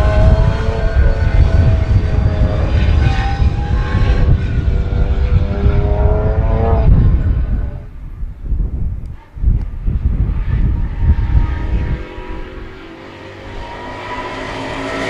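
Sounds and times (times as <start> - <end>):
race car engine accelerating: 0.0 - 8.0, 9.6 - 15.0
wind buffeting microphone: 0.0 - 15.0.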